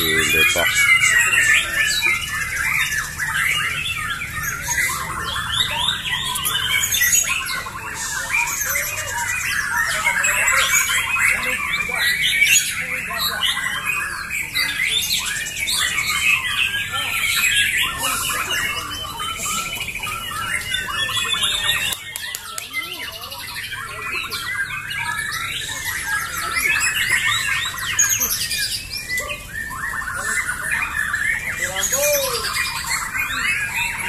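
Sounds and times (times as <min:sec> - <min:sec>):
birds singing whistles and trills: 0:00.0 - 0:34.0.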